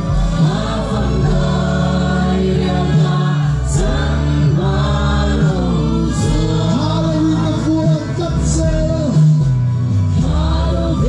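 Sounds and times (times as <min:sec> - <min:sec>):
congregation singing: 0:00.0 - 0:11.0.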